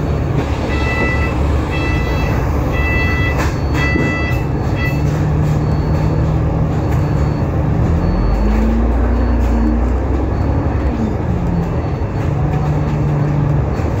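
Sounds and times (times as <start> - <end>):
bus engine running: 0.0 - 14.0
short electronic beeps: 0.6 - 14.0.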